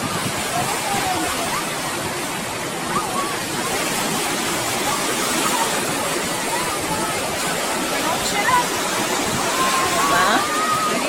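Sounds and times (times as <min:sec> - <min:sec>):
ocean surf washing onto shore: 0:00.0 - 0:11.0.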